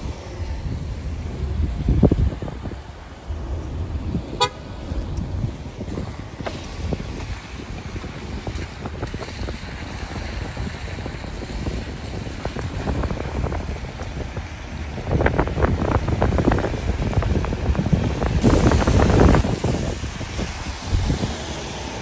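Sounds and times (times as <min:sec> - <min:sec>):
tyres on wet road: 0:00.0 - 0:22.0
wind buffeting microphone: 0:00.0 - 0:22.0.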